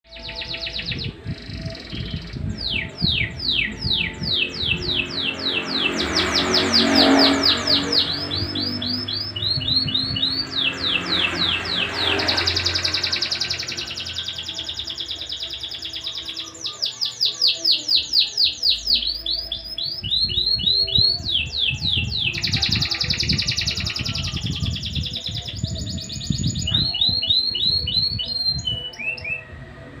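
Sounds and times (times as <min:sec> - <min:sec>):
canary singing trills: 0:00.0 - 0:29.6.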